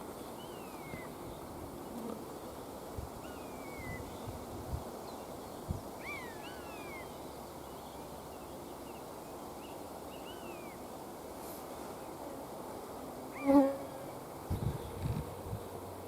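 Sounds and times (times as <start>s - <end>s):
woodland background hiss: 0.0s - 16.0s.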